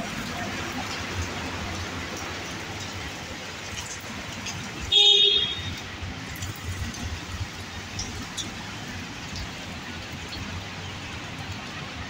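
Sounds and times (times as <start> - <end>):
rain on paved street: 0.0 - 12.0
water drips: 0.0 - 12.0.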